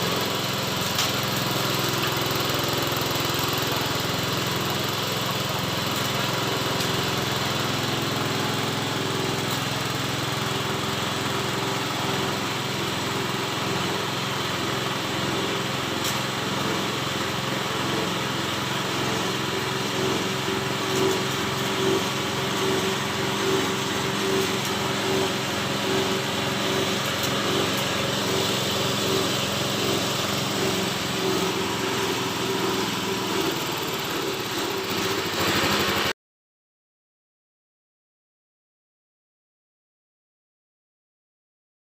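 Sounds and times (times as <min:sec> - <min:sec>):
small engine running with pulsing: 0:00.0 - 0:36.1.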